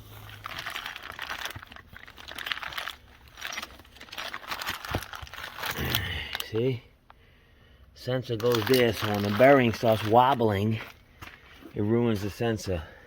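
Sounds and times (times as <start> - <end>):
packaging crinkling and rustling: 0.0 - 6.7, 8.3 - 12.8.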